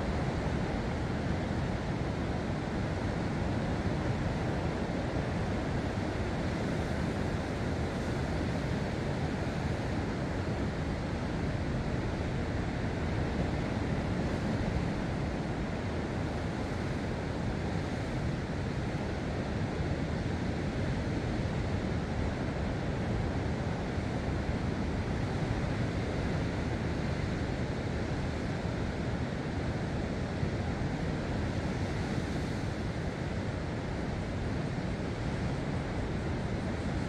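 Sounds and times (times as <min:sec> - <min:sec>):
wind: 0:00.0 - 0:37.0.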